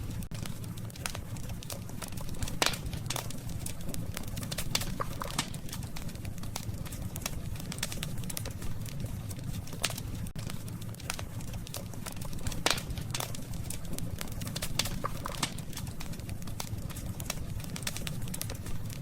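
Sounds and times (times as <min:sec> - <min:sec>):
low rumble of burning: 0:00.0 - 0:19.0
wood fire crackling: 0:00.0 - 0:19.0.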